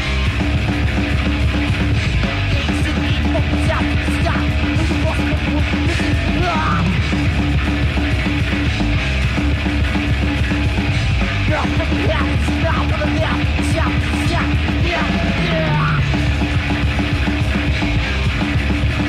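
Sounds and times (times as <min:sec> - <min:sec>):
death metal band playing live: 0:00.0 - 0:19.0.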